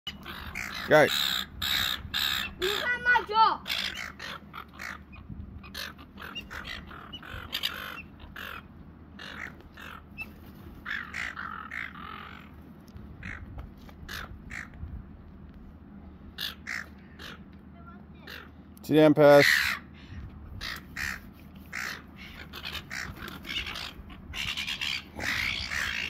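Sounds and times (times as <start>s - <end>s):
seagulls calling: 0.1s - 12.6s, 13.2s - 14.9s, 16.3s - 26.0s.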